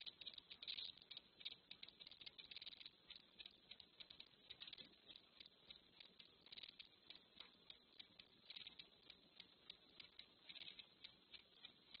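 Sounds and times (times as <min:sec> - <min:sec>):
soft irregular clicks: 0:00.0 - 0:12.0.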